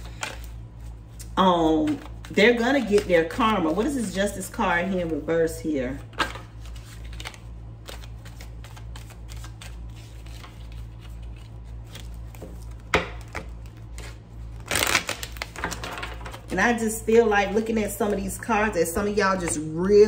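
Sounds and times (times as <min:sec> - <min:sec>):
cards being shuffled: 0:00.0 - 0:16.6
steady low hum: 0:00.0 - 0:20.0.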